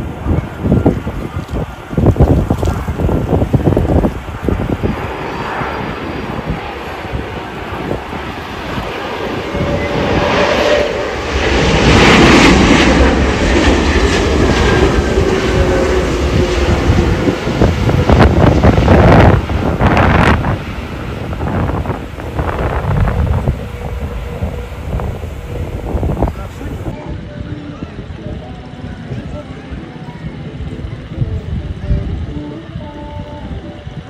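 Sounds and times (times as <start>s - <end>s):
airliner engines roaring: 0.0s - 34.0s.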